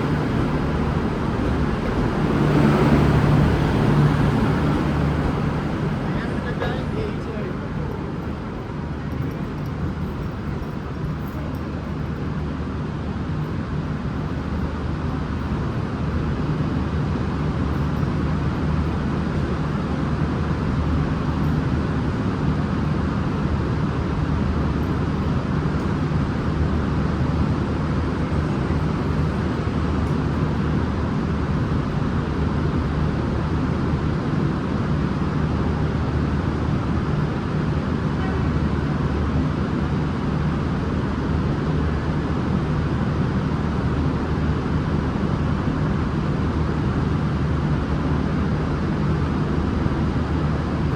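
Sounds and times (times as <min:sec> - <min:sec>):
diesel train engines droning: 0:00.0 - 0:50.9.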